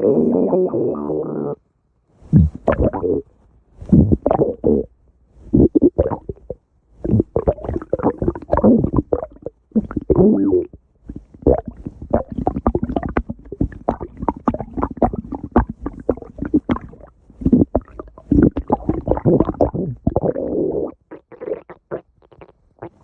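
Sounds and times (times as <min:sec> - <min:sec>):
stomach growling: 0:00.0 - 0:01.6, 0:02.3 - 0:03.2, 0:03.8 - 0:04.9, 0:05.5 - 0:23.0.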